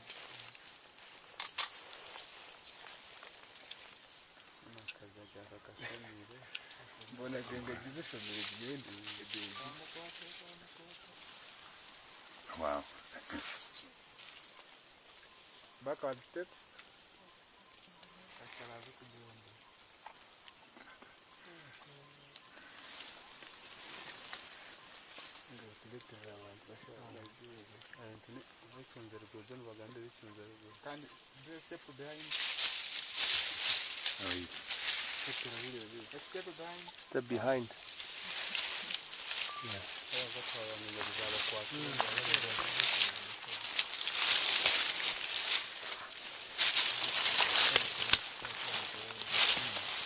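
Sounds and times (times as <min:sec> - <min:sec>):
rainforest insects droning: 0:00.0 - 0:50.0.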